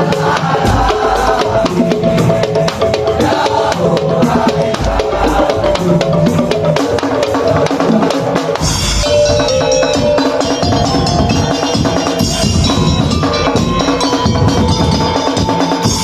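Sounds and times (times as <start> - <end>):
higher-pitched percussion layer: 0.0 - 16.0
percussion ensemble playing: 0.0 - 16.0.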